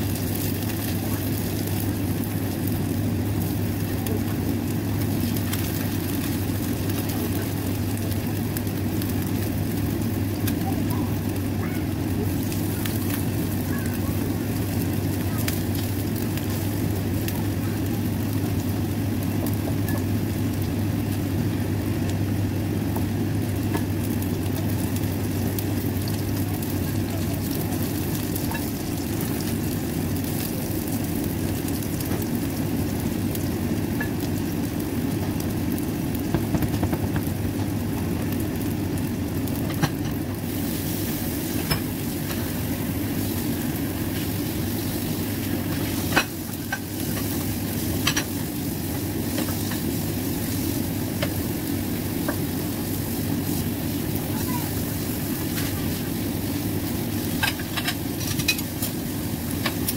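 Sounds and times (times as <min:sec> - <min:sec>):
batter sizzling in oil: 0:00.0 - 0:59.9.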